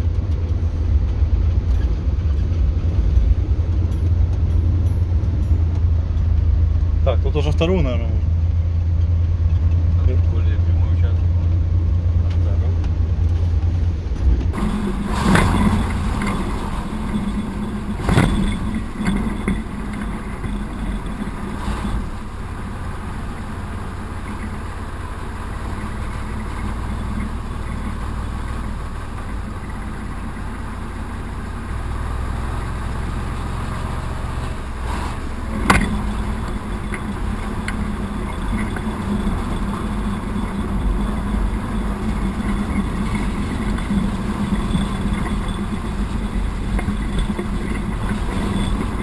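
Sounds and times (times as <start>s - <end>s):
diesel locomotive engine droning: 0.0s - 49.0s.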